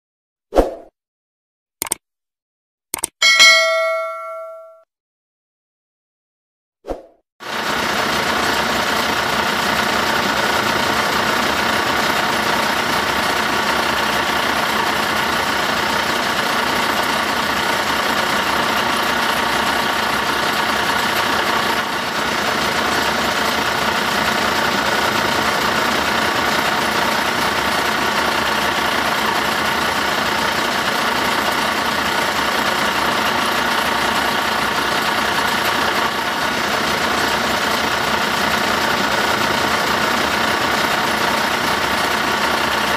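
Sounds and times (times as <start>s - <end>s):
truck engine idling: 7.6s - 42.9s.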